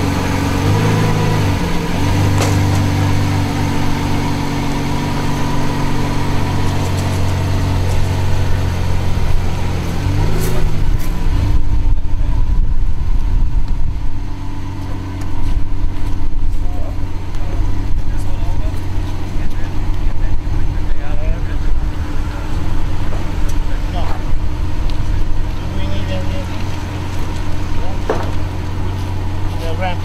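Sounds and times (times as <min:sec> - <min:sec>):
car engine idling: 0:00.0 - 0:30.0
uneven low engine rumble: 0:00.0 - 0:30.0.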